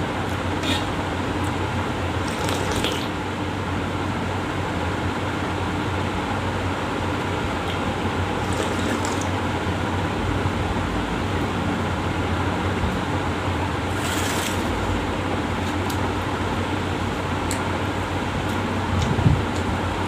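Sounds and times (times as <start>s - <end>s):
electric fan whirring: 0.0s - 20.0s.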